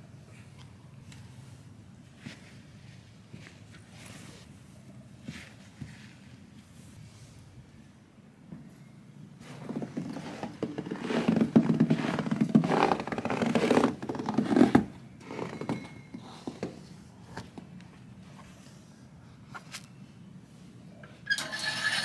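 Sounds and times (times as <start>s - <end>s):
rustling and handling noise: 0.6s - 7.6s, 9.4s - 20.8s.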